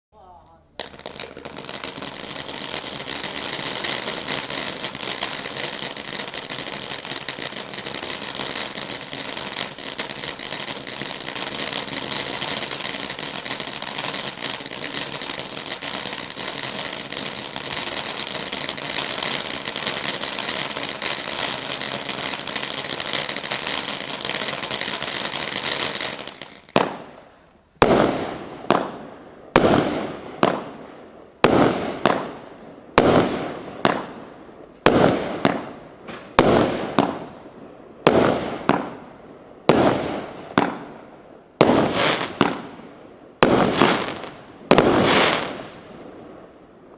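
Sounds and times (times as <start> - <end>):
firework bangs: 0.8 - 27.2, 27.8 - 46.5.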